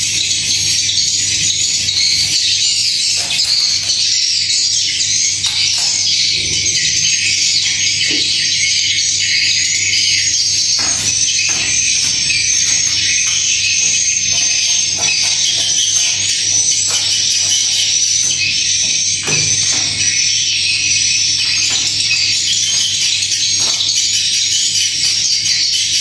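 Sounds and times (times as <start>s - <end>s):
swiftlets twittering: 0.0s - 26.0s.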